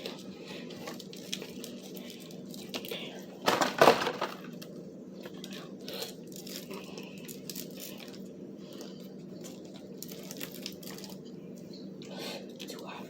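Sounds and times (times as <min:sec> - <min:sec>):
food packaging rustling: 0:00.0 - 0:11.3
steady low hum: 0:00.0 - 0:13.0.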